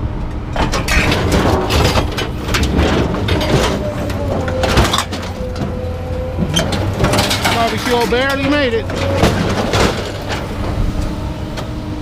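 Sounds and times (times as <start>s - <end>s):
scrap metal clanging and scraping: 0.6s - 11.6s.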